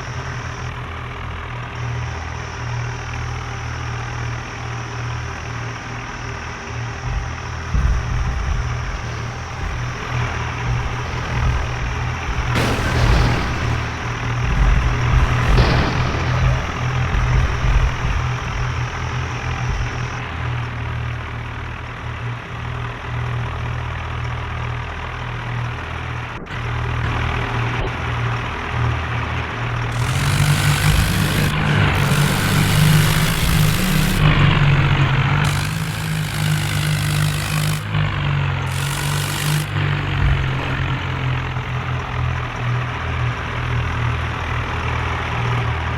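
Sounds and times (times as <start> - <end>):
tractor engine running and revving: 0.0 - 45.9.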